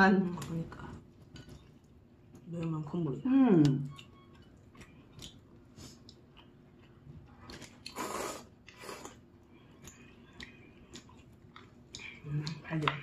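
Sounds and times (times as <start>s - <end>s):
chewing: 0.4s - 13.0s.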